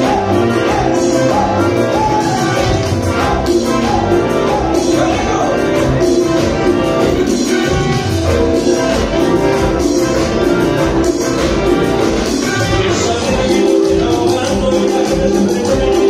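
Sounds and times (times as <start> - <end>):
live band music with singing: 0.0 - 16.0.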